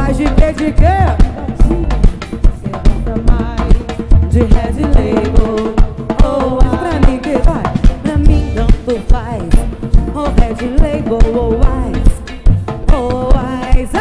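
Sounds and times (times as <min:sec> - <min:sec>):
bass drum beat: 0:00.0 - 0:14.0
live band music: 0:00.0 - 0:14.0.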